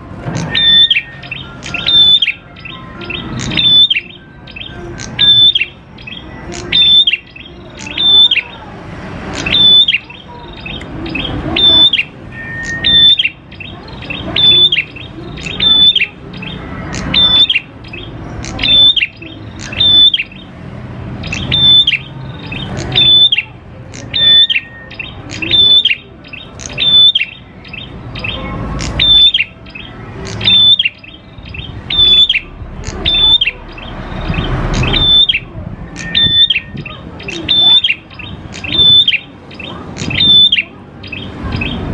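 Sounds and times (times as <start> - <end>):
bird calling sharp high calls: 0.2 - 8.6, 9.2 - 20.5, 21.2 - 41.9.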